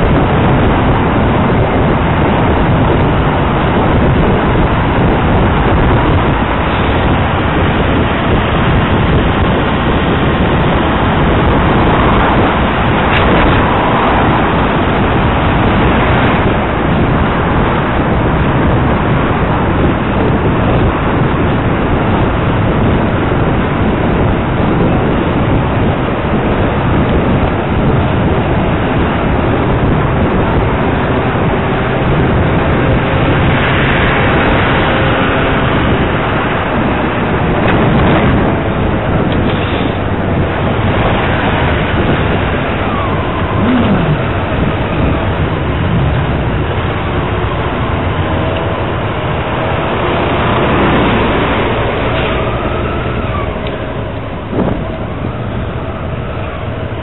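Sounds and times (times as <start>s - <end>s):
city traffic: 0.0s - 57.0s
road noise: 0.0s - 57.0s
wind noise on microphone: 0.0s - 57.0s.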